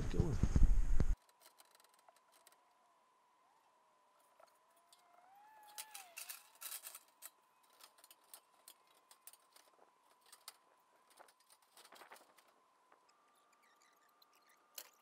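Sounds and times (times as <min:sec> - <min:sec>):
faint steady tone: 0:01.1 - 0:15.0.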